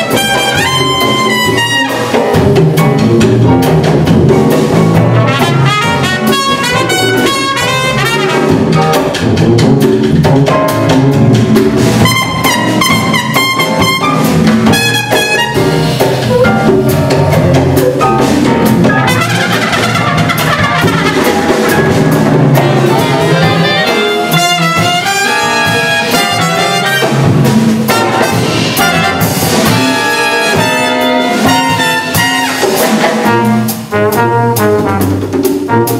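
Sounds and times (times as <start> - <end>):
brass and saxophones: 0.0 - 4.0, 4.6 - 35.9
hand drums: 0.0 - 34.0
bass: 0.0 - 35.9.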